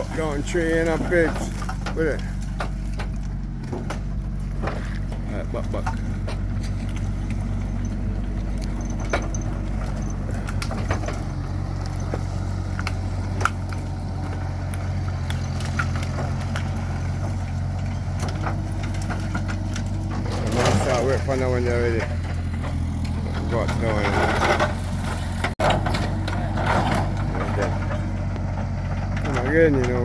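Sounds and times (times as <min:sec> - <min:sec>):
heavy vehicle engine running: 0:00.0 - 0:30.0.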